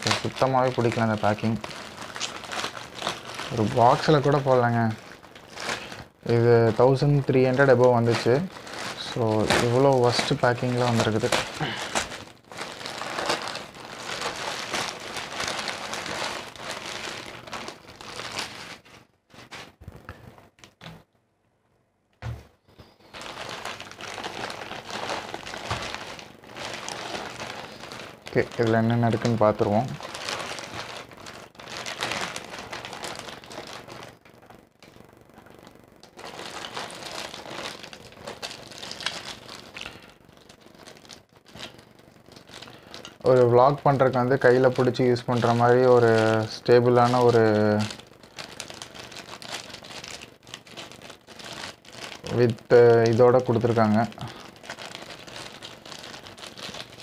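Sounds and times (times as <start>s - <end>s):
plastic bag crinkling: 0.0s - 20.9s, 22.8s - 57.0s.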